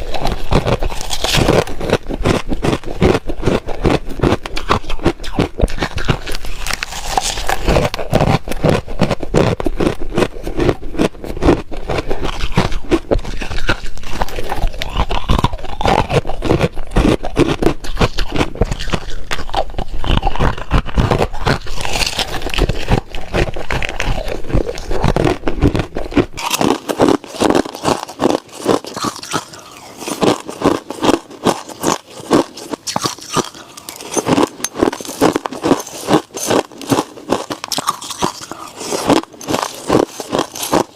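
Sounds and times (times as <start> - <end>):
crunching and chewing ice: 0.0 - 40.9.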